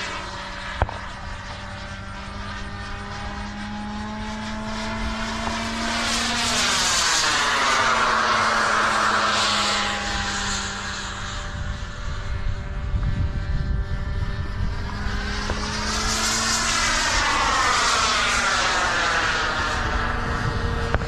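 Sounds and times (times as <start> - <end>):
model airplane motors whining: 0.0 - 21.0
wind rumble on microphone: 0.0 - 21.0.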